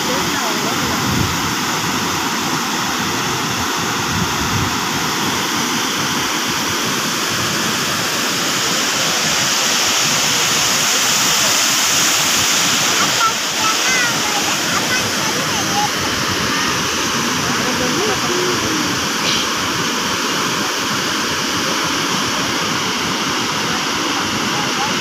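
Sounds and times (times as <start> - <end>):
water rushing through weir: 0.0 - 25.0.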